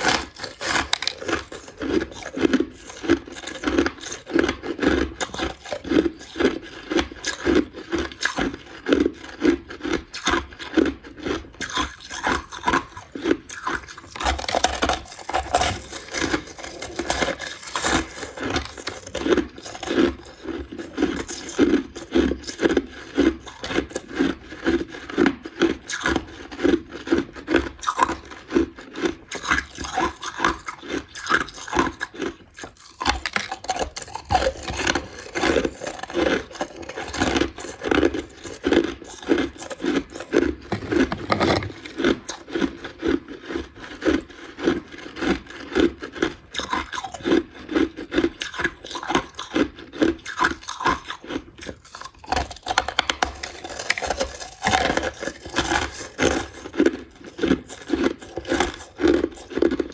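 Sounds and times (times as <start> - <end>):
person chewing crushed ice: 0.0 - 59.9.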